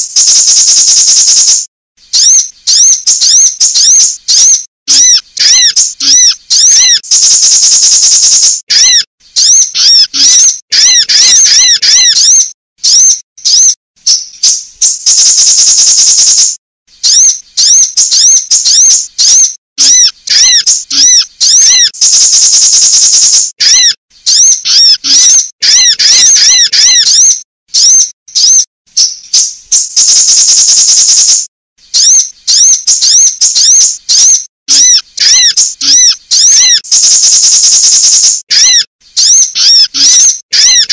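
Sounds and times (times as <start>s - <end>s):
high arched bird chirps: 0.0s - 40.9s
long buzzing bird trill: 0.0s - 40.9s.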